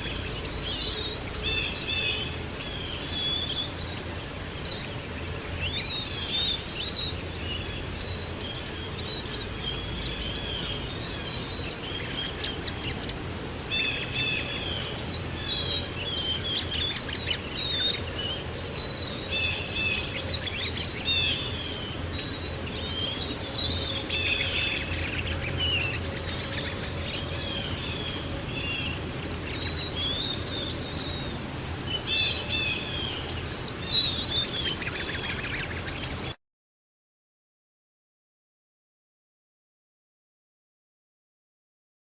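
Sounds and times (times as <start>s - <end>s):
songbirds chirping: 0.0s - 36.4s.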